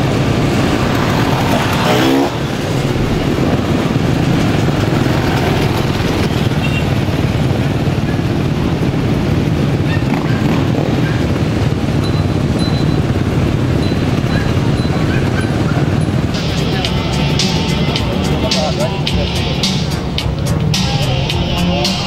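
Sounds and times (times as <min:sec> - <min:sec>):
motorcycle engines droning: 0:00.0 - 0:22.0
motorcycle revving: 0:00.0 - 0:22.0.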